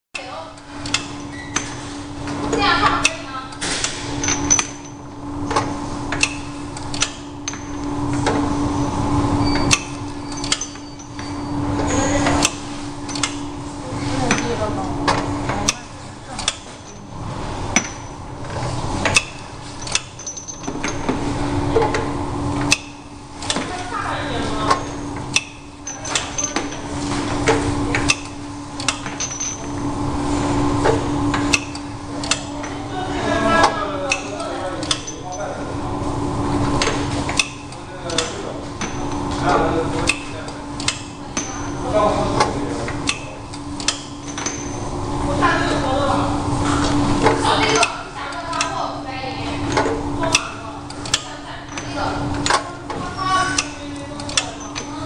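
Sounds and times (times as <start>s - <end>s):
labelling machine hum: 0.2s - 55.0s.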